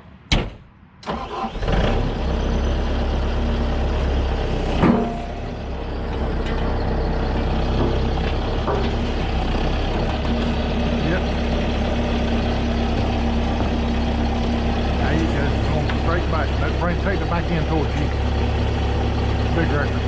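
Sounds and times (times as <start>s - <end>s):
diesel engine running: 1.1s - 20.0s.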